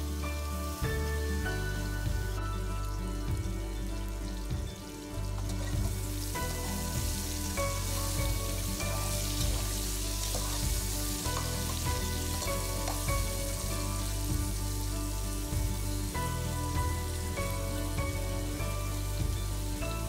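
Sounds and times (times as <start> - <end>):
background music: 0.0 - 20.0
eggplant sizzling in a pot: 0.0 - 20.0.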